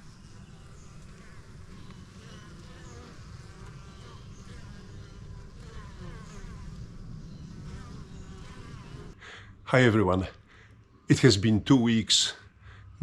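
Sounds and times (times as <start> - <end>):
honeybees buzzing: 0.0 - 10.6.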